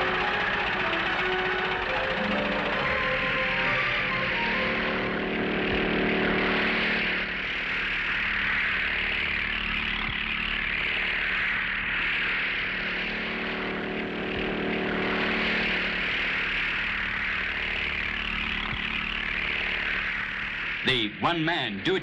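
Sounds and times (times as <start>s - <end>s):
light helicopter engine running: 0.0s - 22.0s.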